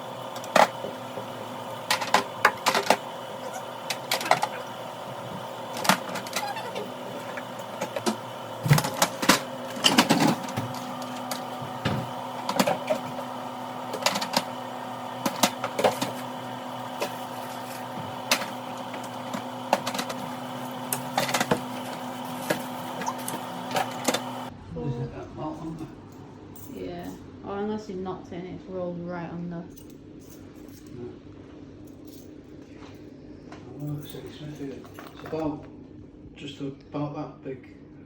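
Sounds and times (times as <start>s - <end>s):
steady hum: 0.0s - 34.8s.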